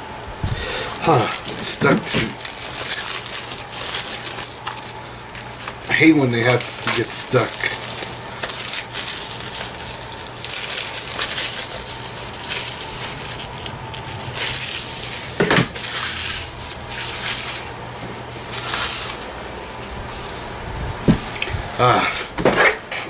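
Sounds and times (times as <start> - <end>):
plastic case and paper scraping: 0.8 - 21.8.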